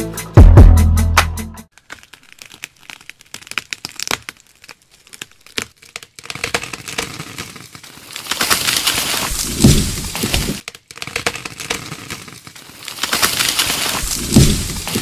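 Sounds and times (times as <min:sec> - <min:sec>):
pine needles and twigs crunching: 0:01.7 - 0:15.0.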